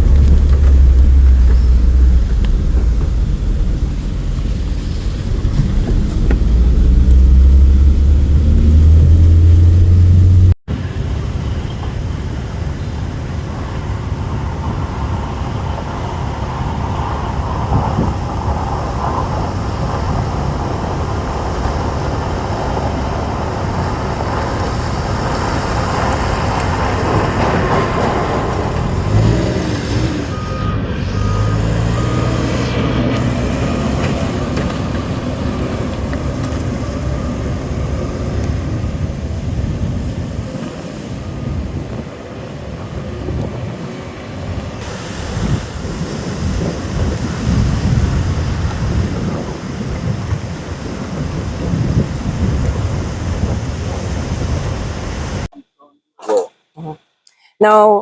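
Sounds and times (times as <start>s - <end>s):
engine and road noise rumble: 0.0s - 55.5s
vehicle engine drone: 0.0s - 55.5s.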